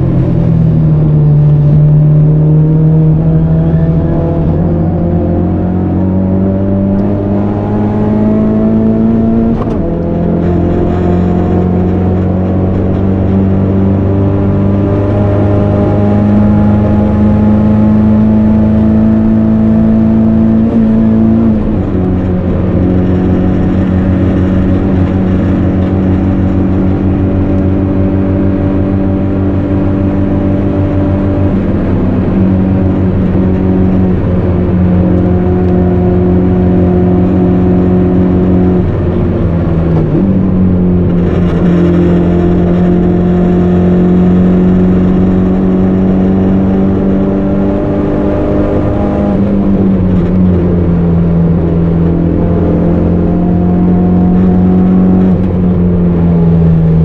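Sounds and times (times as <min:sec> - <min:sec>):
car engine revving under load: 0:00.0 - 0:57.0.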